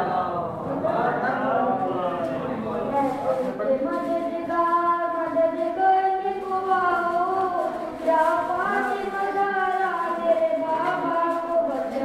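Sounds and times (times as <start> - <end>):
boy chanting a lament: 0.0 - 12.0.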